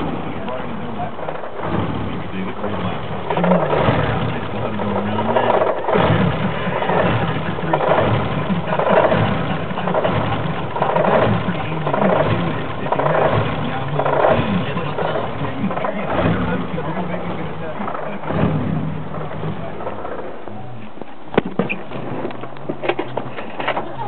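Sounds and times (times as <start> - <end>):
car engine idling roughly: 0.0 - 24.0.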